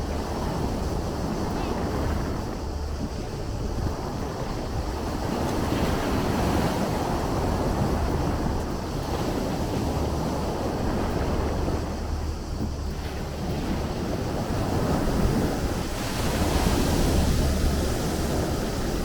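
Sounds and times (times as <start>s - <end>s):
sea surf washing on shore: 0.0s - 19.0s
steady low rumble: 0.0s - 19.0s.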